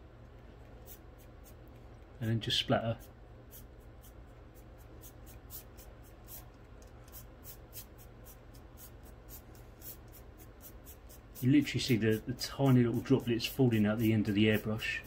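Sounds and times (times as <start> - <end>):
airbrush sputtering: 0.6 - 2.0, 2.8 - 15.0.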